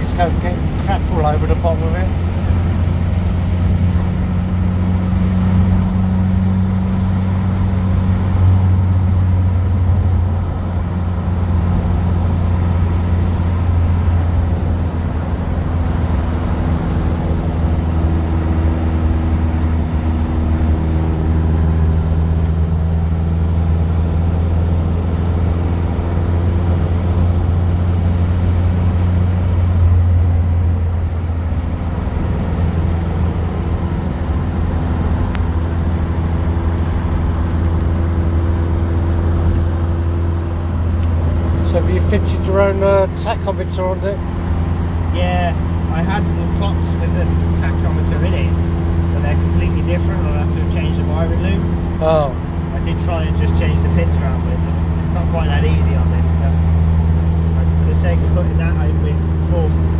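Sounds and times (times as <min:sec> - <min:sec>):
car engine from inside cabin: 0:00.0 - 0:59.9
road noise: 0:00.0 - 0:59.9.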